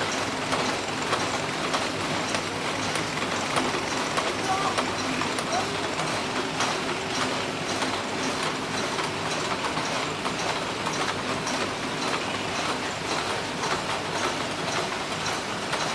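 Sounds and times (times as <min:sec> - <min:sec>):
machine clattering rapidly: 0:00.0 - 0:15.9.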